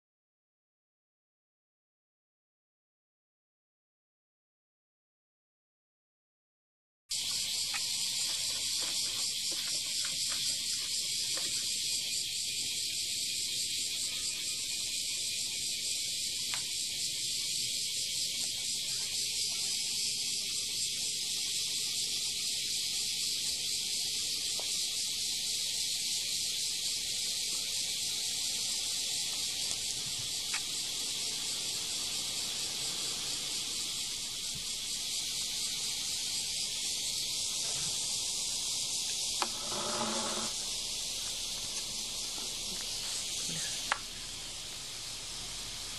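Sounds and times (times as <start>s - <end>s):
high-pitched hiss: 7.1s - 45.9s.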